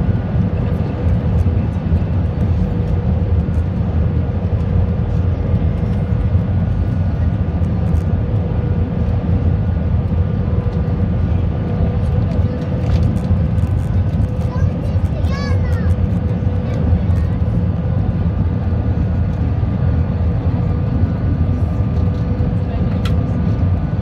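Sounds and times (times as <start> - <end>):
engine and airflow rumble: 0.0 - 24.0.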